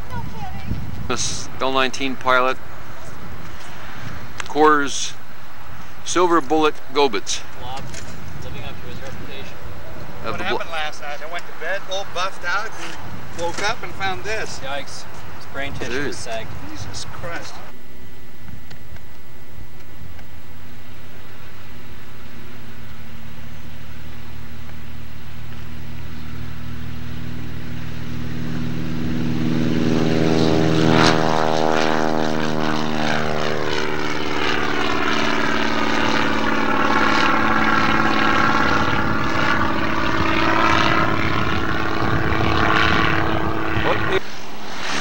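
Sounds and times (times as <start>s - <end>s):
propeller airplane flying past: 0.0s - 45.0s.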